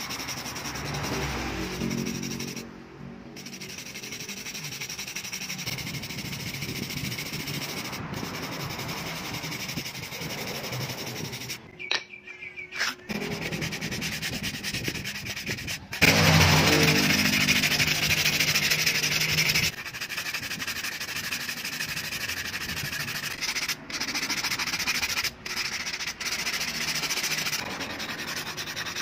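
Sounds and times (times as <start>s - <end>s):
wire brush scrubbing coconut husk: 0.0s - 2.7s, 3.4s - 11.6s, 13.1s - 29.0s.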